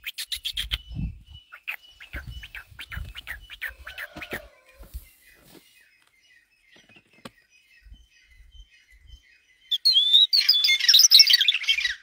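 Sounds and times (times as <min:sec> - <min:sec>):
bird chirps and calls: 0:00.0 - 0:12.0.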